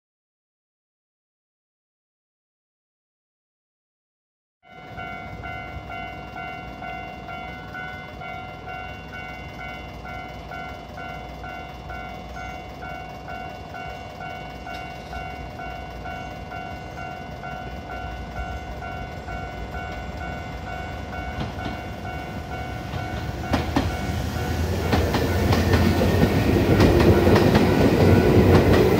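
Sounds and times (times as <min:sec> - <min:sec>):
level-crossing warning bell: 0:04.6 - 0:28.9
electric train rumbling: 0:04.7 - 0:28.9.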